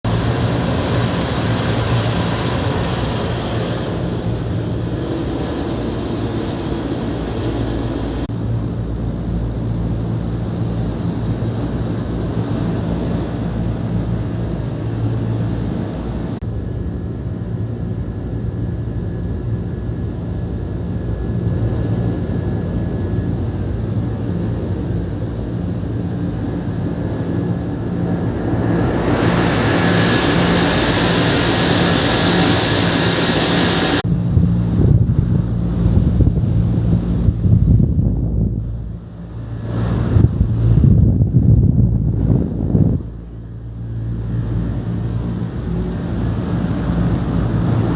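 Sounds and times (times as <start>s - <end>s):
air conditioner humming: 0.1s - 47.9s
fan hiss: 0.1s - 47.9s.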